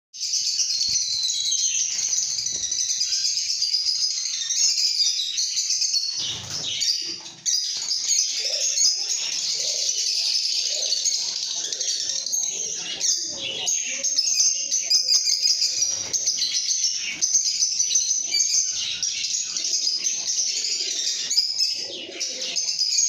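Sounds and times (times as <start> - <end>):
lovebirds chirping and chattering: 0.2 - 23.0.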